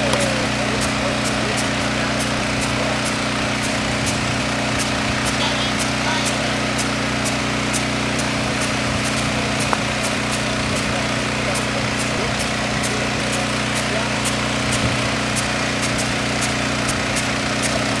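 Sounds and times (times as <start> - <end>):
water pump engine running: 0.0 - 18.0.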